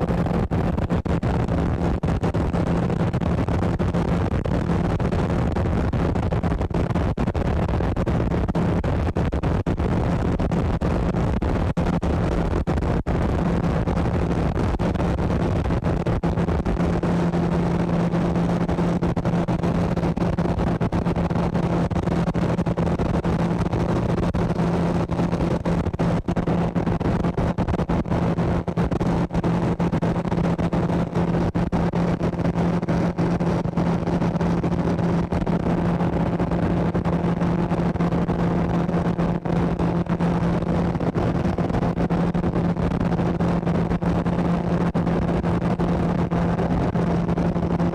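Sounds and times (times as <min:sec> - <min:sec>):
motorboat engine hum: 0:00.0 - 0:47.9.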